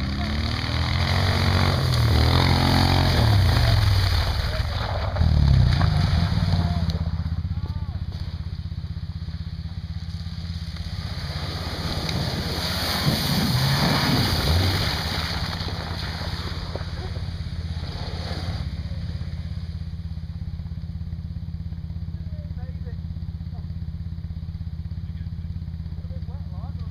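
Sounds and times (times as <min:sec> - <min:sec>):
buggy engine driving past: 0:00.0 - 0:26.9
tyres churning snow and gravel: 0:00.0 - 0:26.9.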